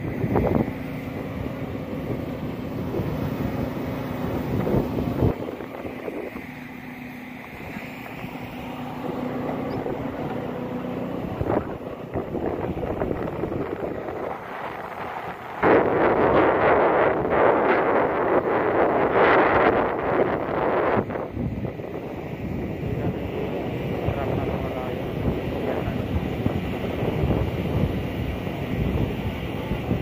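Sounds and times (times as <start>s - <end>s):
truck engine running: 0.0s - 30.0s
wind buffeting microphone: 0.0s - 30.0s.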